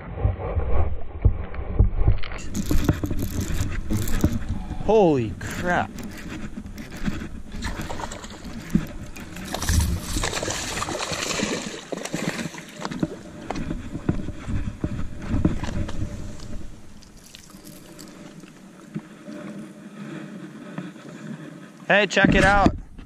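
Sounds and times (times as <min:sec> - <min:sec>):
rustling and scraping of fishing gear: 0:02.2 - 0:23.0.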